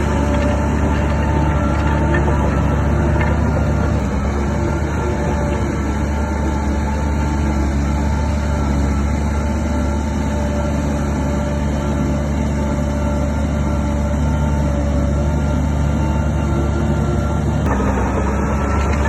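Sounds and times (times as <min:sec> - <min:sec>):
bulldozer diesel engine drone: 0:00.0 - 0:19.0.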